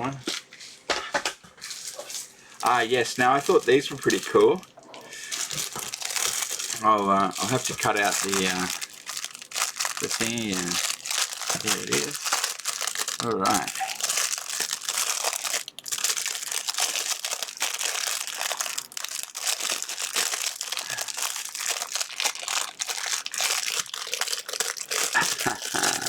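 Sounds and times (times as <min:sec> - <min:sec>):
packaging crinkling: 0:01.6 - 0:26.0.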